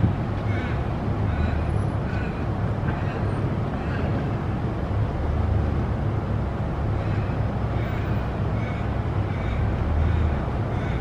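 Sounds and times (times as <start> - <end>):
busy road traffic rumble: 0.0 - 11.0.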